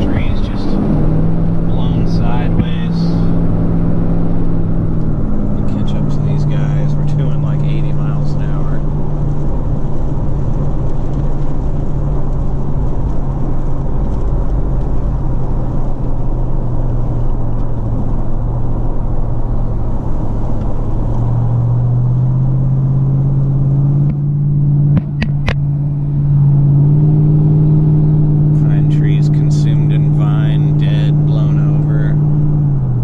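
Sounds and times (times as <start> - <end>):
vehicle road and engine drone: 0.0 - 33.0.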